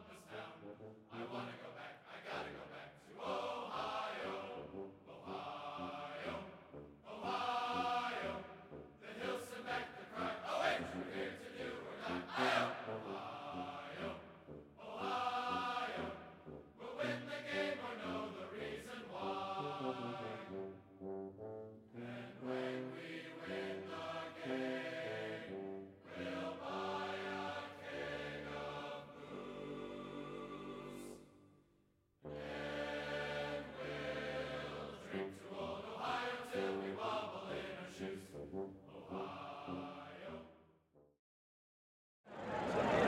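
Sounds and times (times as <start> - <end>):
choir singing held notes: 0.0 - 20.8, 21.9 - 31.3, 32.3 - 40.5
brass: 0.0 - 31.2, 32.2 - 40.6.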